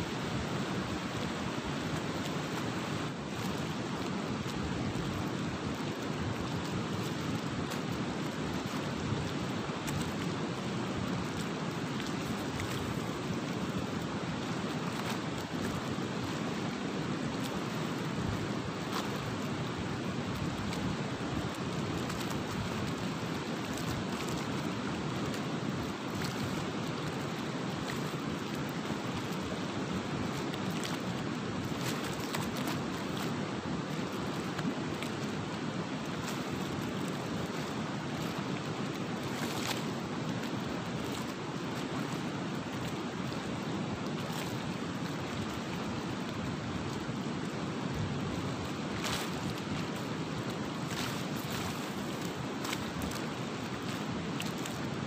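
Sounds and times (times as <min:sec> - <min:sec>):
flowing river water: 0:00.0 - 0:55.0
wind: 0:00.0 - 0:55.0.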